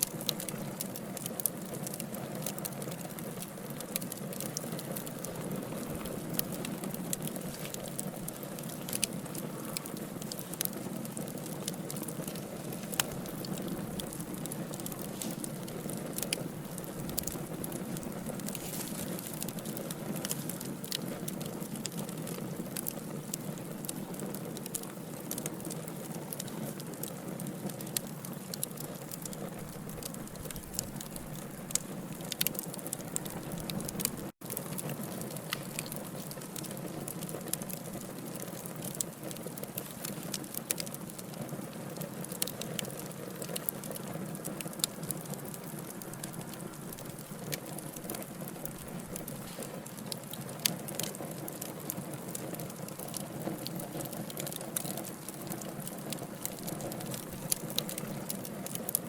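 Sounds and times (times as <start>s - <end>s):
logs burning in a fireplace: 0.0s - 59.0s.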